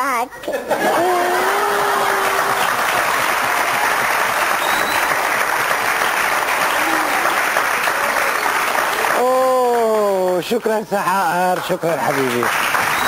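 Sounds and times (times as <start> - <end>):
studio audience applauding: 0.9 - 13.0.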